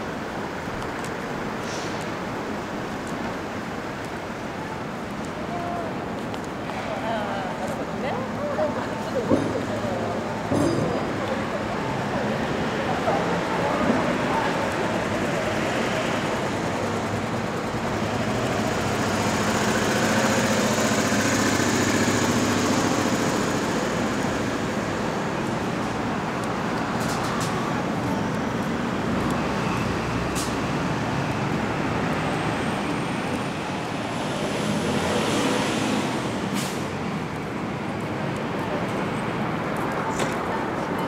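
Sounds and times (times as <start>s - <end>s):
passing vehicles: 0.0s - 41.0s.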